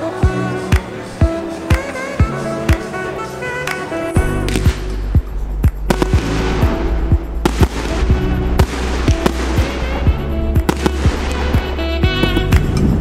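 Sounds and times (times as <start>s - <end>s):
background music with deep bass: 0.0s - 13.0s
fireworks bursting with crackle: 0.0s - 13.0s.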